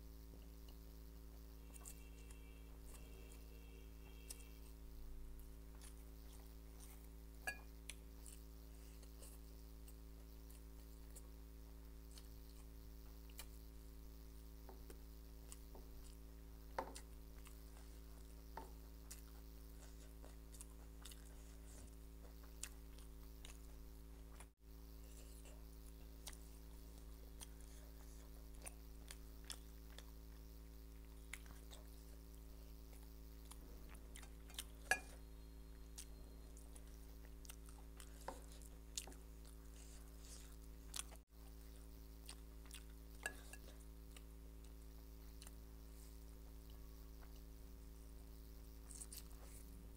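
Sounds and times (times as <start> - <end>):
steady low hum: 0.0 - 49.9
faint chewing: 1.6 - 14.0, 14.6 - 49.9.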